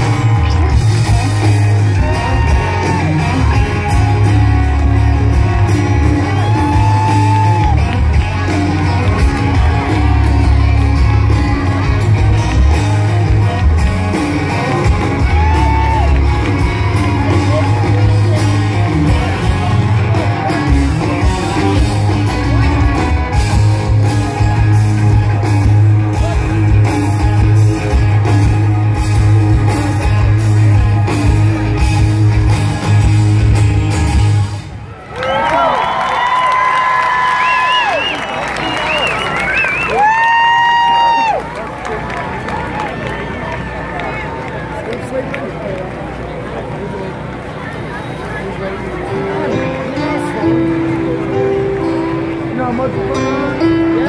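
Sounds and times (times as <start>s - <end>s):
live country band: 0.0s - 54.0s.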